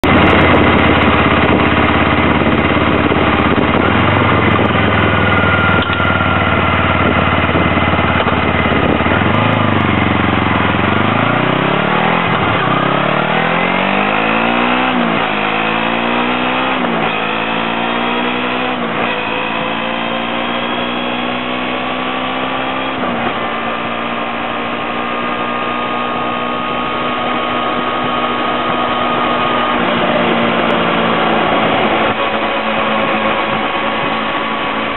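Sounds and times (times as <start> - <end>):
motorcycle engine revving and shifting: 0.0 - 34.9.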